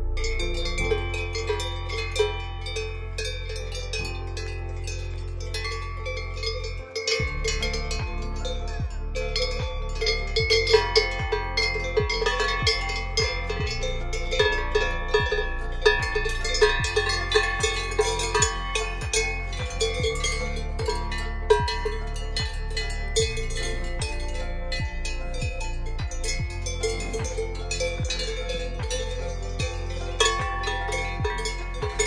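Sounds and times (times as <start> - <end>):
background music beat: 0.0 - 32.0
cow bell clanking: 0.0 - 32.0.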